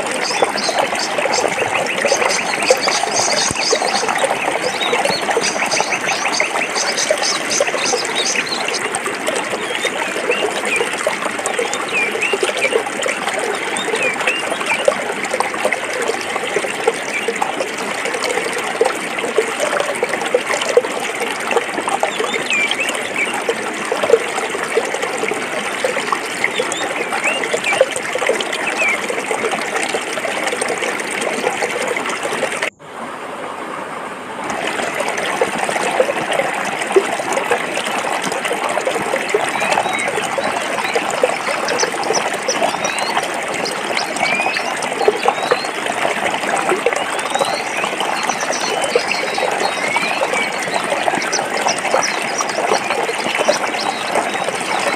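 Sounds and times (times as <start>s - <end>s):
stream babbling over rocks: 0.0s - 54.9s.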